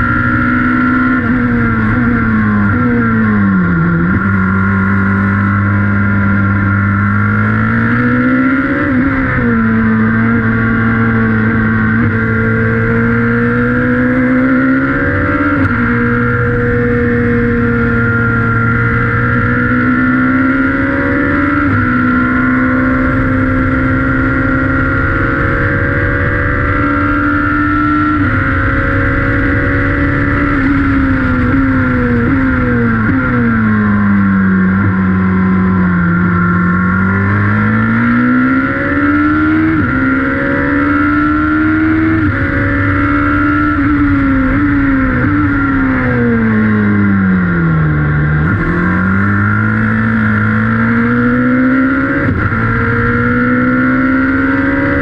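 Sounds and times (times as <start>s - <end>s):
race car engine at speed: 0.0s - 55.0s.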